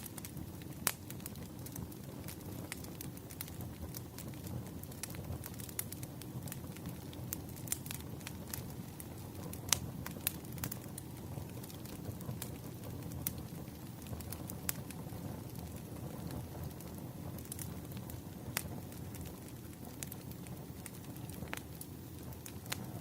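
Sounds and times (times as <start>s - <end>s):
low rumble of flames: 0.0s - 23.0s
wood fire popping and snapping: 0.0s - 23.0s.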